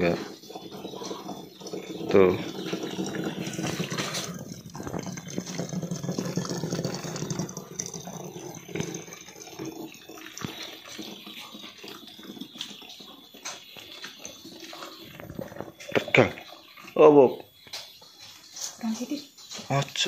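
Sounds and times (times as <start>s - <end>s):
liquid trickling into a bottle: 0.0s - 17.3s.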